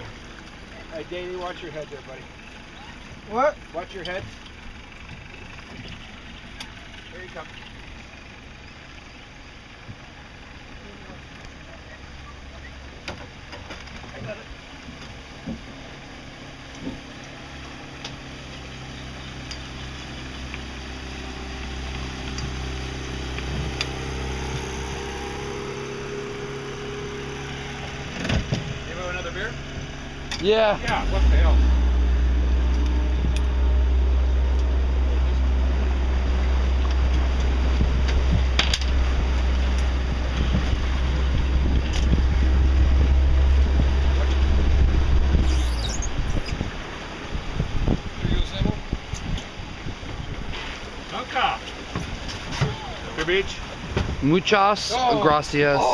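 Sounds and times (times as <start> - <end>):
outboard motor running: 0.0 - 55.9
water noise: 0.0 - 55.9
wind: 0.0 - 55.9.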